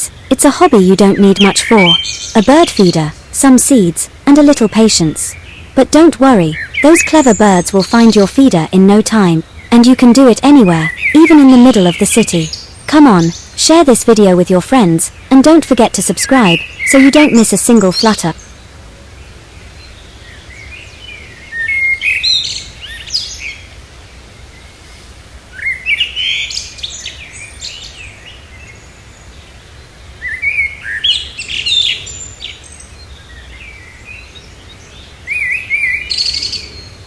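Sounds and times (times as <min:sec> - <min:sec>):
songbird singing: 0:00.0 - 0:37.0.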